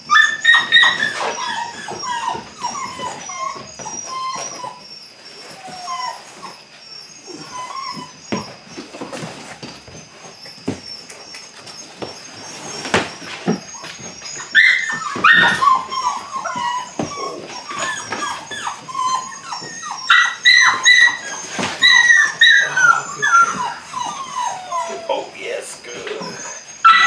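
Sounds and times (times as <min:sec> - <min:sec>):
puppy whining and yipping: 0:00.0 - 0:27.0.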